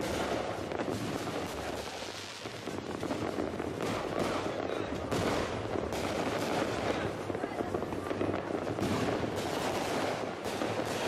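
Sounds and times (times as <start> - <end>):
firecrackers popping and crackling: 0.0 - 11.0
loud fireworks bangs: 0.0 - 11.0.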